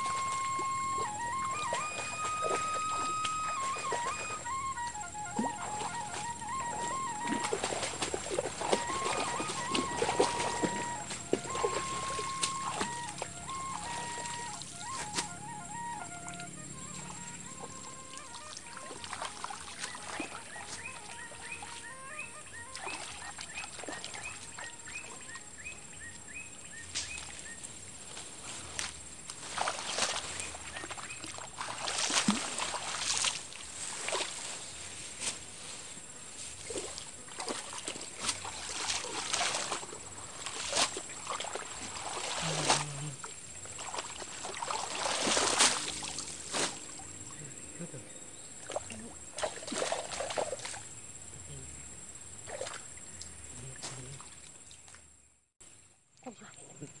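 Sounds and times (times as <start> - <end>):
water splashing and sloshing: 0.0 - 47.4, 48.6 - 51.0, 52.3 - 55.1.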